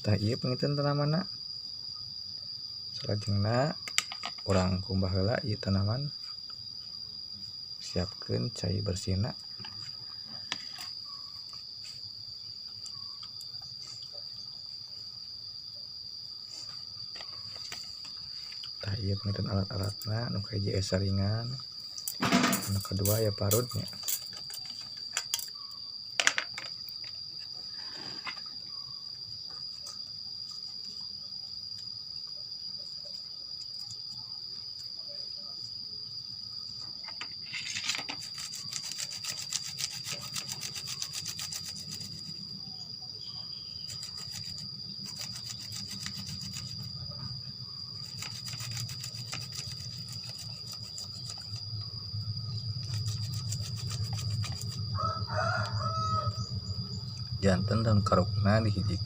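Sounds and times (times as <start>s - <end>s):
cricket trilling: 0.0s - 59.0s.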